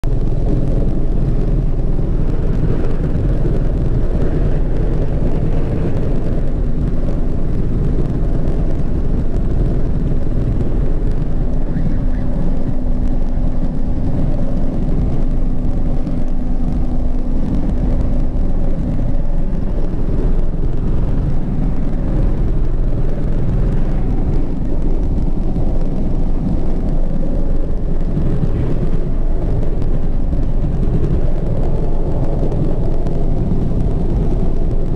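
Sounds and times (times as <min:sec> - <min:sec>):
faint steady tone: 0:00.0 - 0:34.9
helicopter rotor and engine noise: 0:00.0 - 0:34.9.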